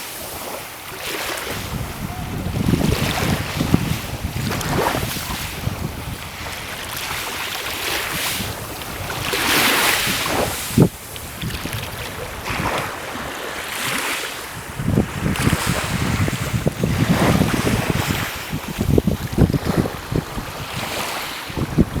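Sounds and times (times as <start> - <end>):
sea water washing: 0.0 - 22.0
wind buffeting microphone: 1.4 - 22.0.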